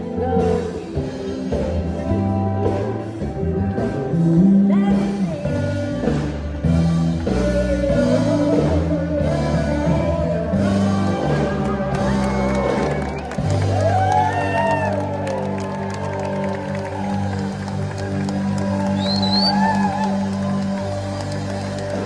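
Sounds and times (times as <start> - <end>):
gospel band playing: 0.0 - 22.0
heavy bass line: 0.0 - 22.0.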